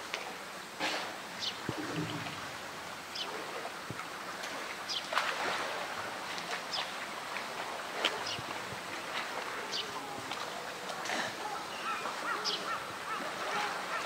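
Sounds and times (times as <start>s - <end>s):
water splashing and sloshing: 0.1s - 14.0s.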